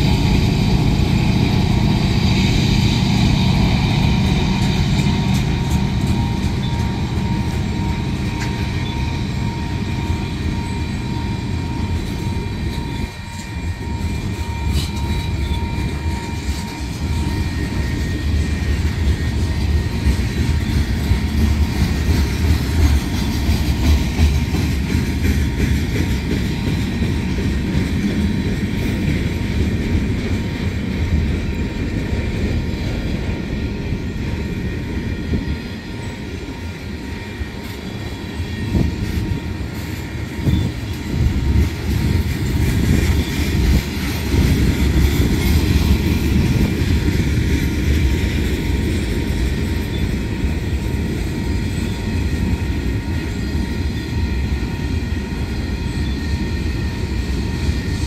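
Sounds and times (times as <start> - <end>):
freight train wheels rumbling: 0.0 - 58.0
train cars clacking and banging: 0.0 - 58.0.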